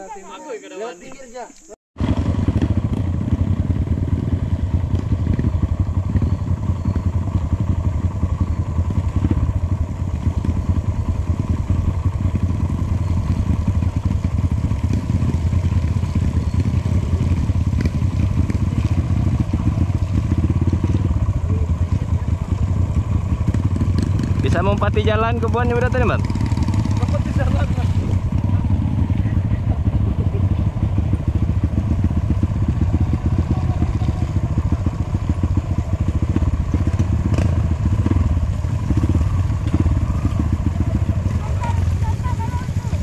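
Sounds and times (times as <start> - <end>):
motorcycle engine running: 1.0 - 43.0.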